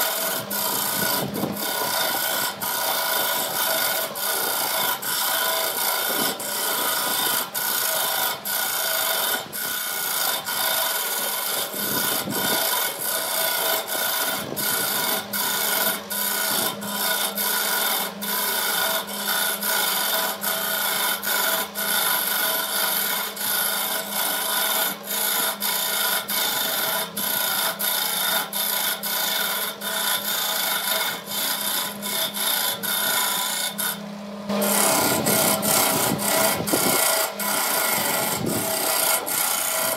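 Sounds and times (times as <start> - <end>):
lathe humming: 0.0 - 39.9
turning tool scraping wood: 0.0 - 39.9.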